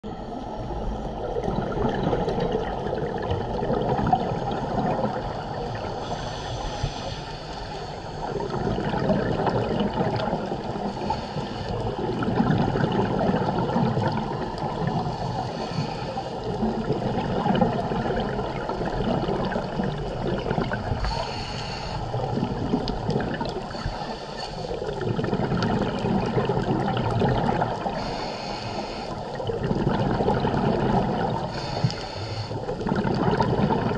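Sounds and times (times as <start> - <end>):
underwater rushing noise: 0.0 - 33.9
regulator bubbling exhalations: 1.2 - 33.9.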